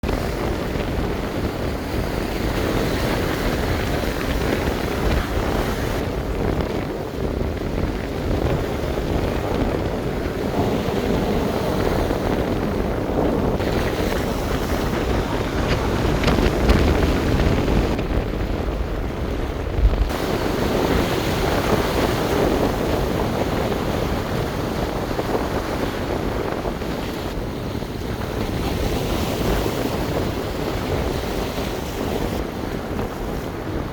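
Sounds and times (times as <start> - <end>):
surf breaking: 0.0 - 33.9
wind buffeting microphone: 0.0 - 33.9.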